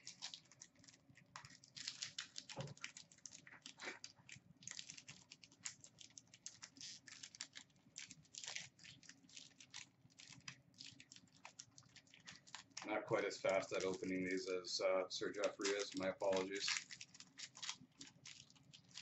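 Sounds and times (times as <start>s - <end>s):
wrapper ripping: 0.0s - 14.4s, 15.2s - 19.0s
wrapper crinkling and crackling: 0.0s - 14.5s, 15.2s - 19.0s.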